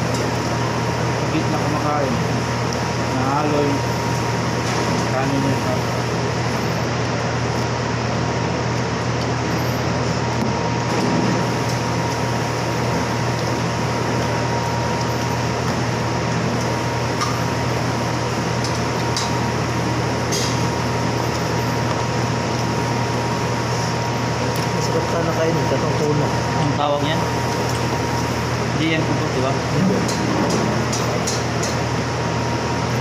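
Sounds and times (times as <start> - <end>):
machine hum and hiss: 0.0 - 33.0.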